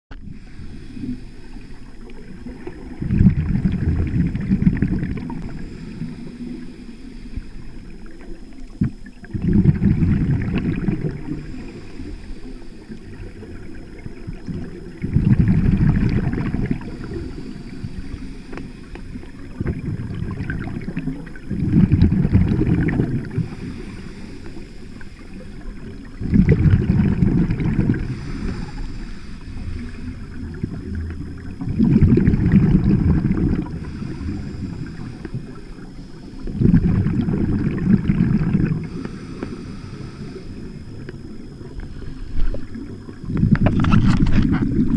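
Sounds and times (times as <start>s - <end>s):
steady underwater hiss: 0.1s - 44.9s
underwater exhaust bubbles rushing: 0.1s - 44.9s
diver exhaling through regulator: 0.2s - 7.9s, 8.9s - 44.9s.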